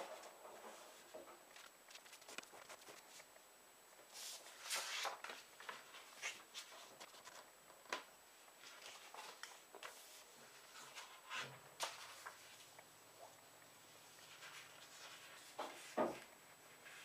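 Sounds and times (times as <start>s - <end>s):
paper rustling and crinkling: 0.0s - 3.3s, 4.1s - 12.8s, 14.1s - 17.0s.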